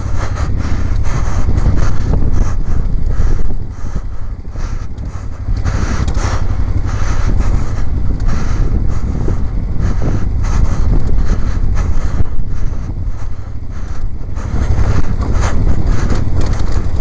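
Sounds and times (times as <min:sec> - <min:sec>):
motorcycle engine rumbling: 0:00.0 - 0:17.0
tyres on gravel: 0:00.0 - 0:17.0
wind rushing over microphone: 0:00.0 - 0:17.0.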